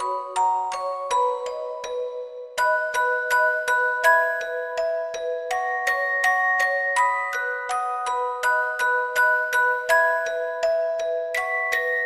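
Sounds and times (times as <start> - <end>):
bell-like mallet melody: 0.0 - 12.0.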